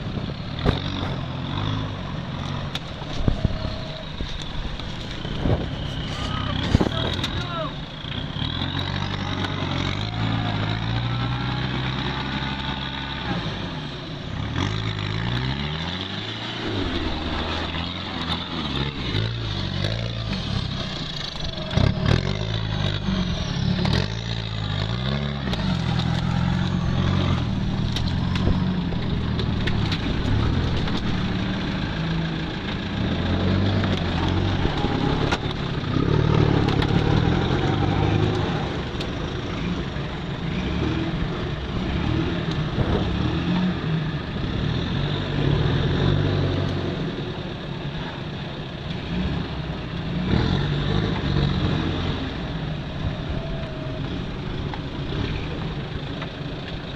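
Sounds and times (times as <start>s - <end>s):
off-road engine revving: 0.0s - 56.9s.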